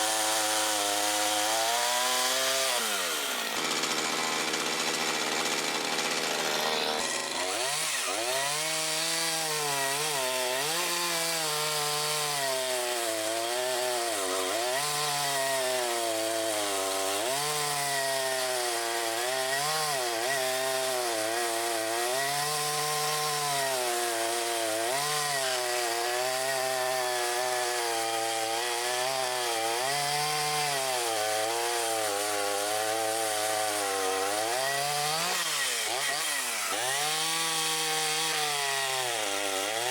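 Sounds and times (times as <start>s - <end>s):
chainsaw running under load: 0.0s - 39.9s.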